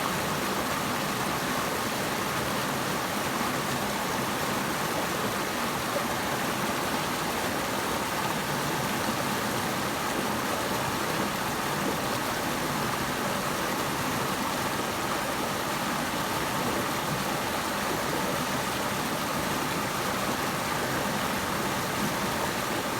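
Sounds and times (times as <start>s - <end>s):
running water rushing: 0.0s - 22.9s.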